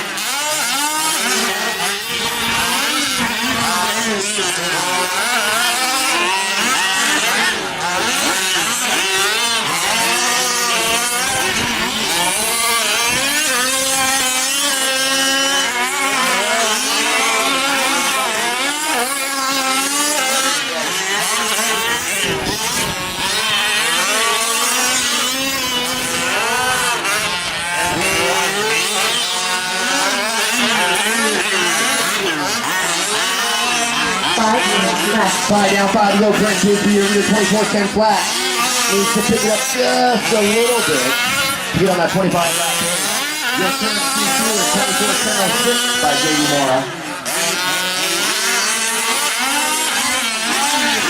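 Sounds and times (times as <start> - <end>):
small two-stroke engines whining: 0.0 - 51.0.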